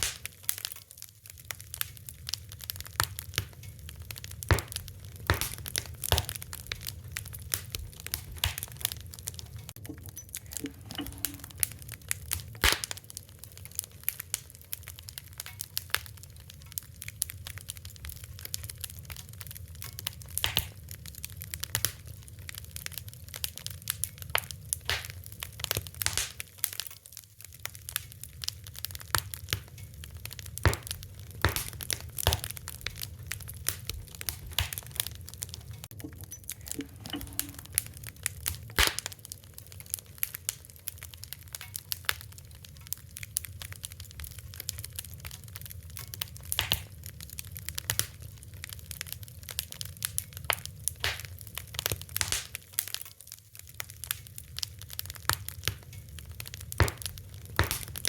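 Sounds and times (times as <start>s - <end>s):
low rumble of burning: 0.0s - 58.0s
wood fire crackling and popping: 0.0s - 58.0s.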